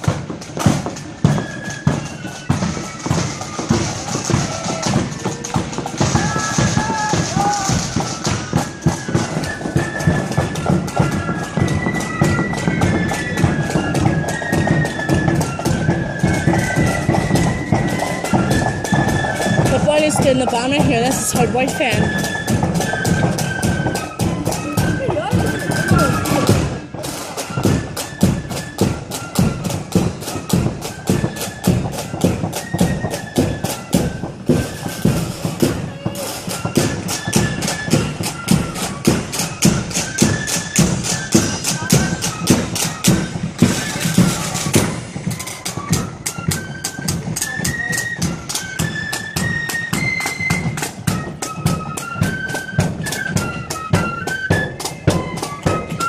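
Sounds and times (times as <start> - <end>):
fast marching drum beat: 0.0 - 56.0
flutes playing a high melody: 0.0 - 56.0.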